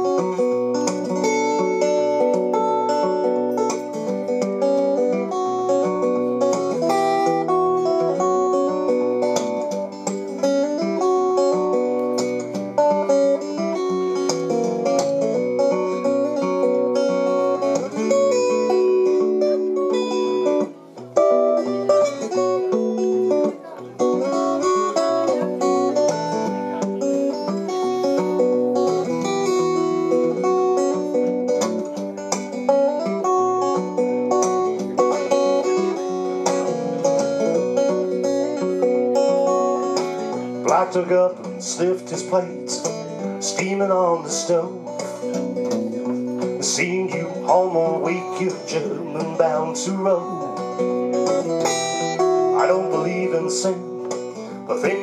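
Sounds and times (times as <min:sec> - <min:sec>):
acoustic guitar plucking: 0:00.0 - 0:55.0.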